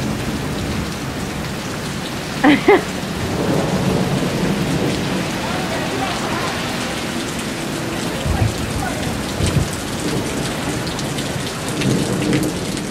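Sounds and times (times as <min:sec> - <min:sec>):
heavy rain hissing: 0:00.0 - 0:12.9.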